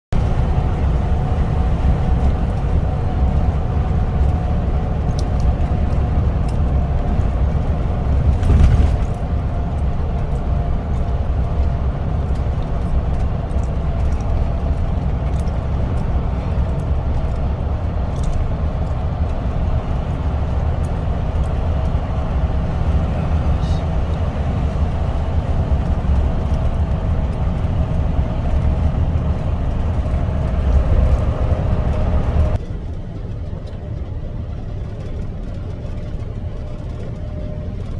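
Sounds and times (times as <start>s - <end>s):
vehicle engine rumble: 0.0s - 37.9s.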